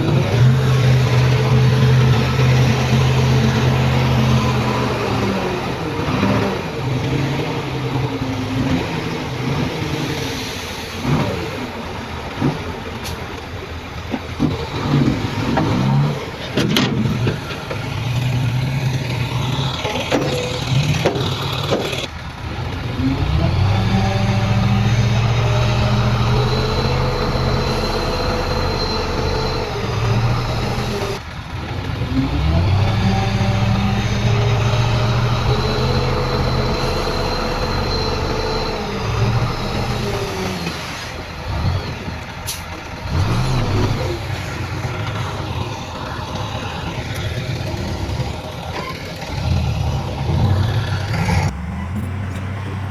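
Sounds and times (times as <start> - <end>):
heavy diesel engine revving: 0.0 - 52.9.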